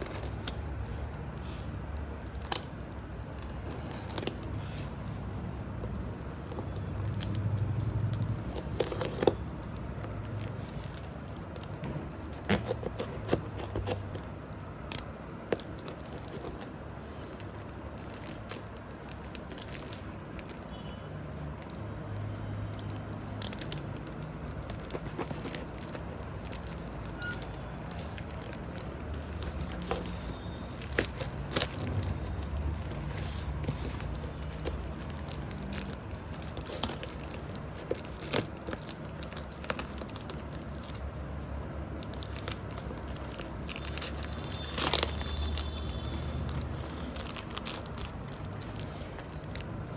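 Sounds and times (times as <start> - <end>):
packaging rustling and tearing: 0.0 - 49.9.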